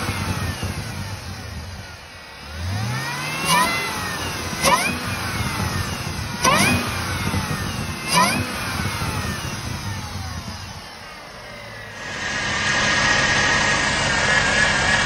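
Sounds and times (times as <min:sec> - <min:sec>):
car engine revving: 0:00.0 - 0:15.0
supercharger whine: 0:00.0 - 0:15.0.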